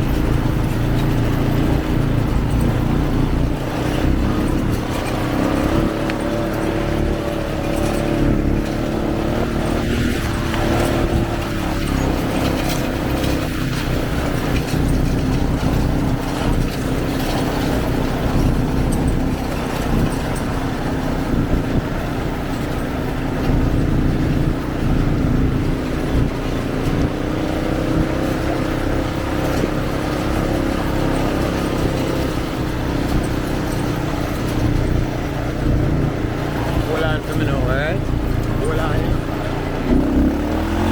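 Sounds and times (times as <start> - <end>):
atv engine droning: 0.0 - 40.9
wind and terrain rumble: 0.0 - 40.9.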